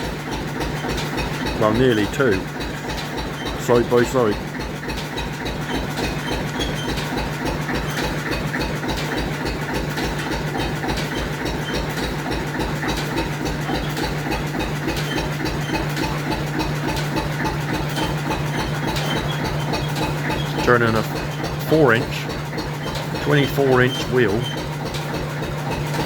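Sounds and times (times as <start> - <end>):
diesel engine thumping steadily: 0.0 - 26.0.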